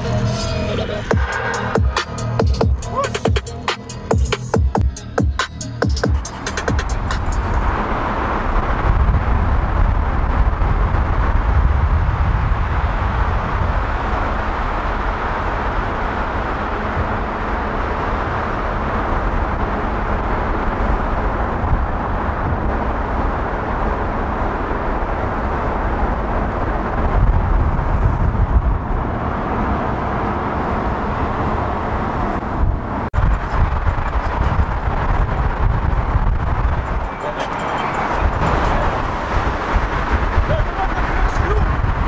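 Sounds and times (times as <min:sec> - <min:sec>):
car driving through tunnel: 0:00.0 - 0:42.0.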